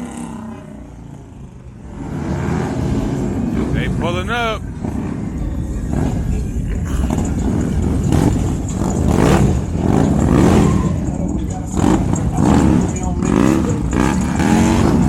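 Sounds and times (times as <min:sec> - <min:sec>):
vehicle engines revving: 0:00.0 - 0:15.0.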